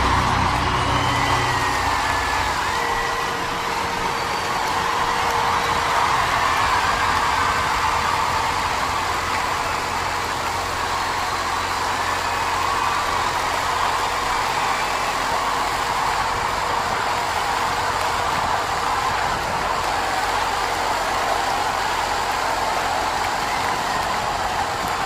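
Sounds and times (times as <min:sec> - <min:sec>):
helicopter motor and rotor whine: 0:00.0 - 0:25.0.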